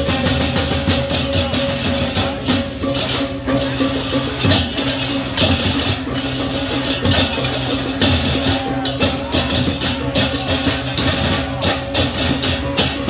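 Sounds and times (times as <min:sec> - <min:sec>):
cymbals clashing: 0:00.0 - 0:13.0
drums: 0:00.0 - 0:13.0.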